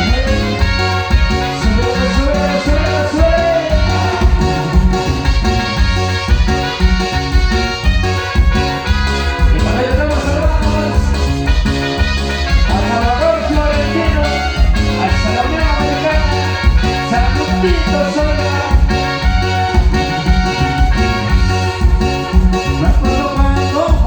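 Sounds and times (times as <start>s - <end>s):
pulsing bass beat: 0.0s - 24.0s
wavering lead melody: 0.0s - 24.0s.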